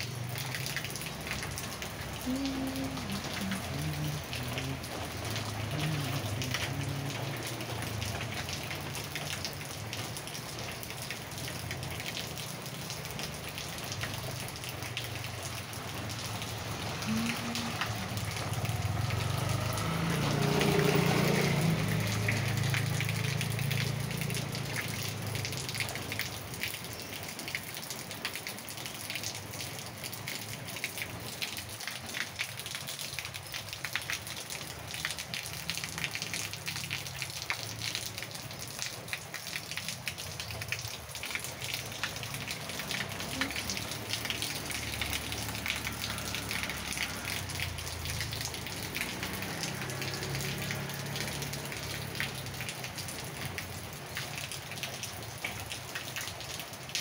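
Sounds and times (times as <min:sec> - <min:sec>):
rain pattering on pavement and plants: 0:00.0 - 0:57.0.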